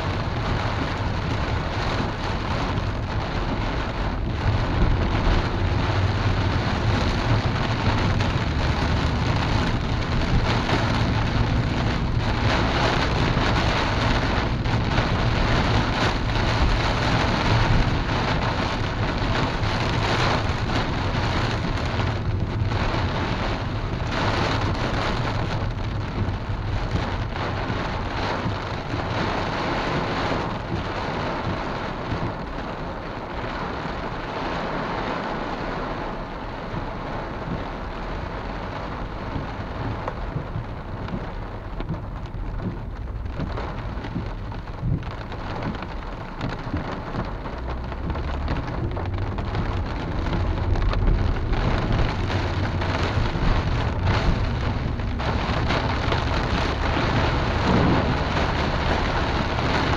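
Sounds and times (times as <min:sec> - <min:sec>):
low rumble of moving car: 0:00.0 - 0:59.9
rain drumming on car roof: 0:00.0 - 0:59.9.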